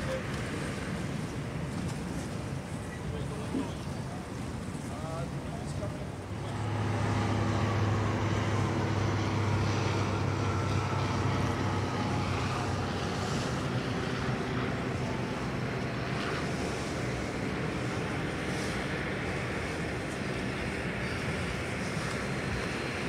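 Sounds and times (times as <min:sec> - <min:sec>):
turboprop engines droning: 0:00.0 - 0:23.0.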